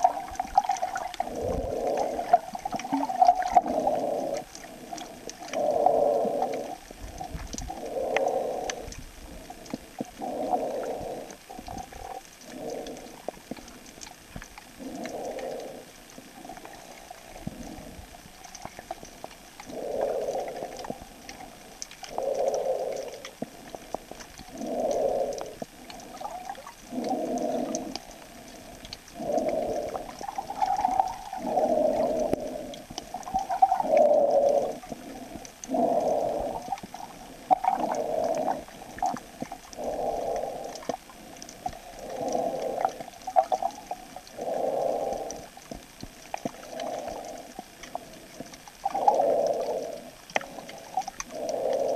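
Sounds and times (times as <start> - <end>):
muffled underwater gurgling: 0.0 - 51.9.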